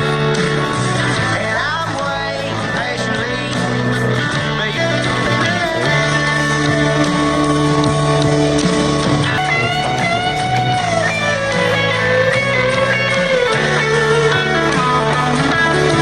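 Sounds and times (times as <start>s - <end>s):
bass notes: 0.0s - 16.0s
electric guitar lead melody: 0.0s - 16.0s.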